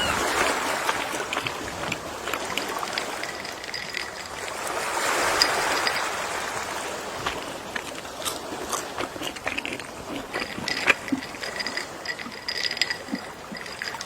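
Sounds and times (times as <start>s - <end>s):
ocean waves washing ashore: 0.0s - 14.0s.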